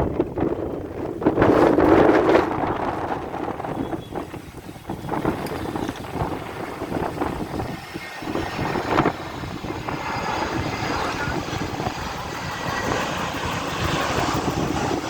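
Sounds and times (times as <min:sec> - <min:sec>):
airliner engine rumble: 0:00.0 - 0:15.0.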